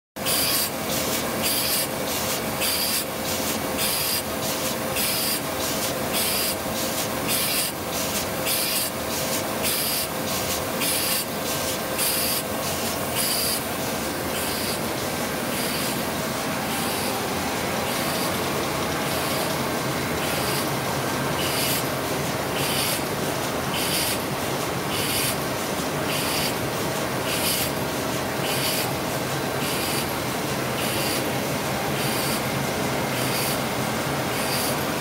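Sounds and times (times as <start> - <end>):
paper machine mechanical hum: 0.2 - 35.0
rhythmic rasping hiss: 0.2 - 35.0.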